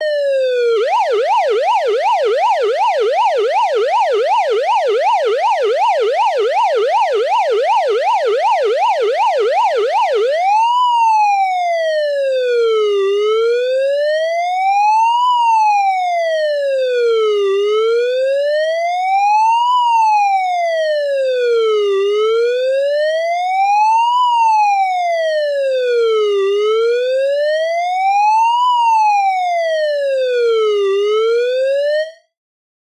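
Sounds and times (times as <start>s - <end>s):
police siren slow wail: 0.0s - 32.3s
police siren yelp: 0.0s - 32.3s.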